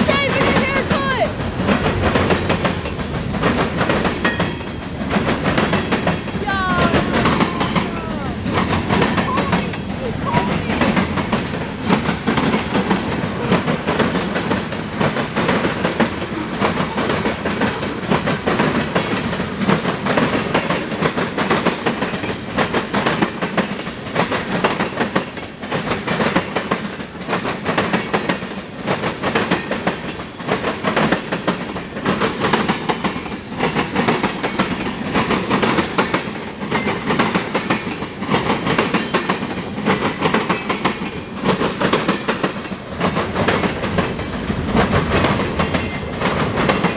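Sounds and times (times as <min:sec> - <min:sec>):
train wheels clacking over rail joints: 0:00.0 - 0:46.9.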